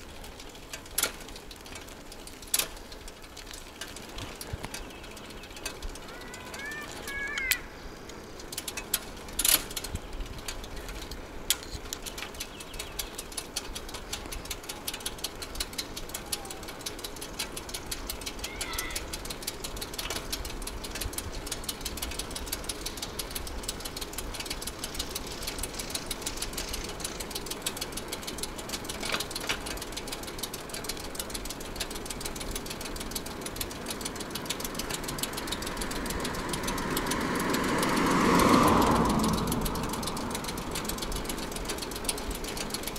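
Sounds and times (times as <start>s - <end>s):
bicycle ticking and rattling: 0.0s - 42.9s
motor vehicle approaching: 0.0s - 42.9s.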